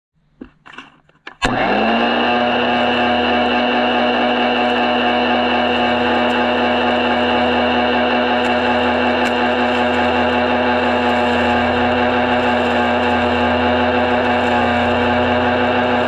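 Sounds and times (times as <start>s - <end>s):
vacuum cleaner motor whining: 1.4s - 16.0s.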